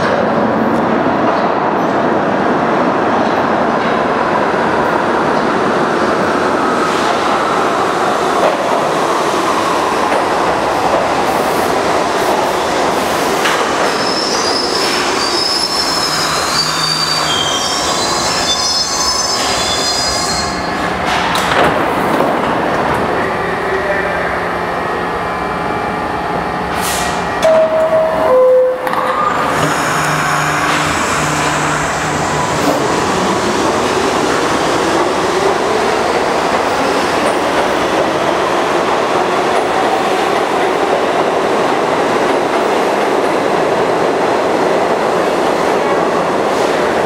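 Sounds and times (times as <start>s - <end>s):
subway train wheels rumbling: 0.0s - 47.0s.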